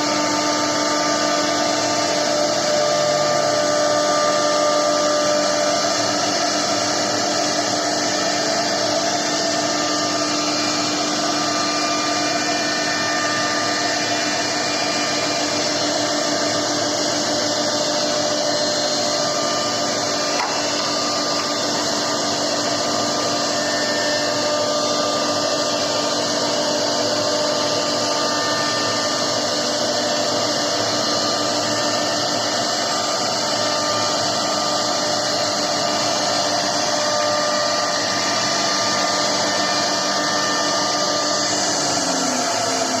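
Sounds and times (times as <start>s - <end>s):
router spindle whining: 0.0s - 43.0s.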